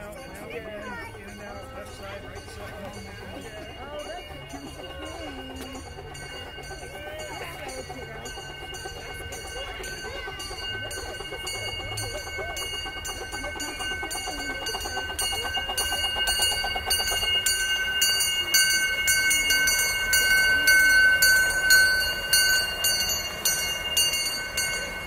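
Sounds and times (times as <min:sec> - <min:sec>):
high-pitched steady tone: 0:00.0 - 0:25.0
steam locomotive chuffing: 0:00.0 - 0:25.0.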